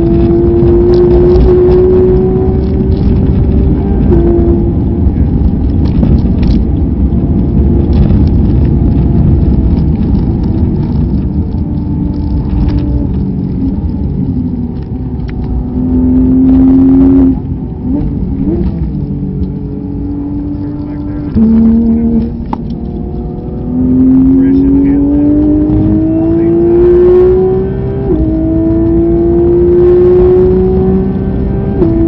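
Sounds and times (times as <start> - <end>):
engine blips while braking: 0.0 - 32.0
race car engine: 0.0 - 32.0
road and wind rumble: 0.0 - 32.0.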